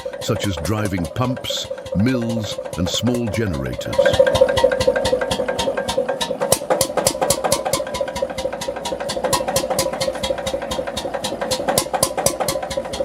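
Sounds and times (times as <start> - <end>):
diesel engine knocking: 0.0 - 13.0.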